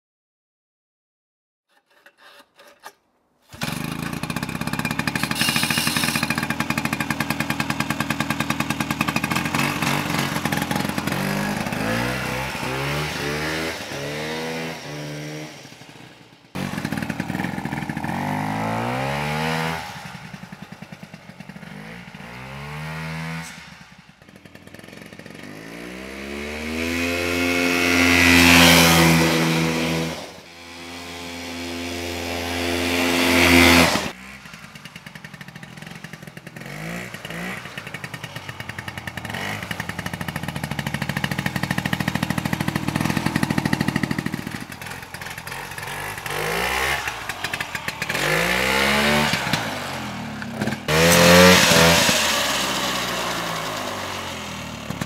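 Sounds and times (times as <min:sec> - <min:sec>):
snowmobile engine revving: 0:03.5 - 0:55.0.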